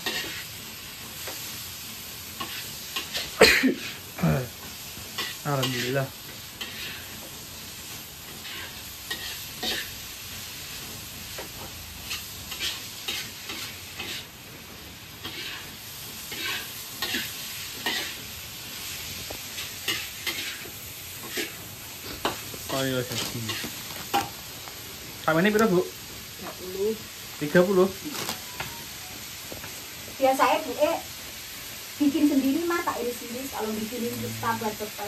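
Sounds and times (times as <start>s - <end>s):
spatula scraping a wok: 0.0s - 25.4s, 31.6s - 35.0s
oil sizzling: 0.0s - 35.0s.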